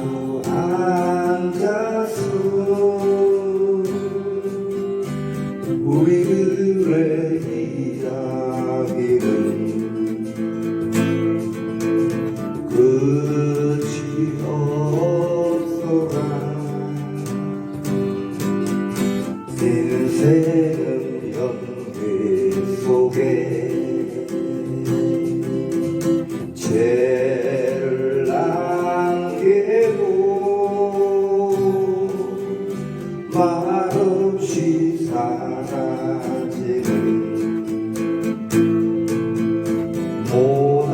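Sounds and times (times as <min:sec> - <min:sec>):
person singing slow melody: 0:00.0 - 0:40.9
strummed acoustic guitar: 0:00.0 - 0:40.9.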